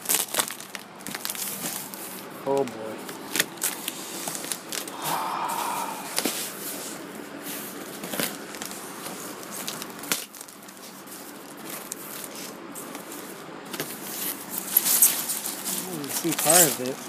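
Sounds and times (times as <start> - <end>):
packing peanuts rustling: 0.0 - 17.0.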